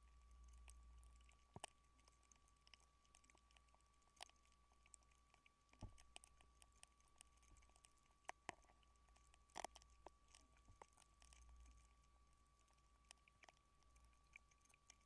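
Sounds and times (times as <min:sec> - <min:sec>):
faint clicks and ticks: 0:00.0 - 0:15.0
faint steady high tone: 0:00.0 - 0:15.0.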